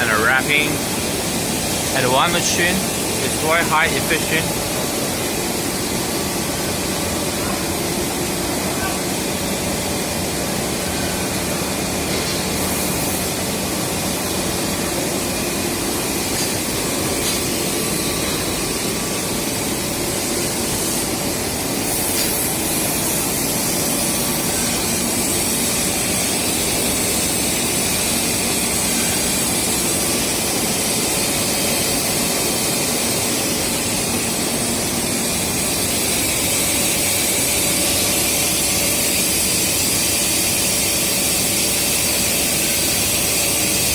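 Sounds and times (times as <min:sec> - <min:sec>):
production line machinery hiss: 0:00.0 - 0:43.9.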